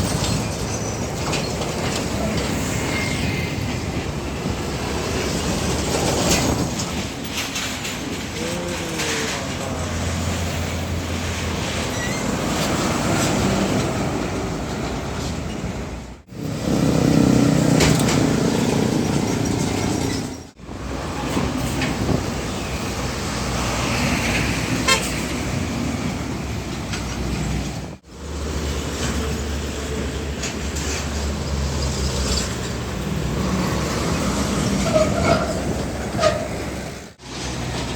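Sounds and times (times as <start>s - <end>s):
diesel trucks passing: 0.0s - 37.9s.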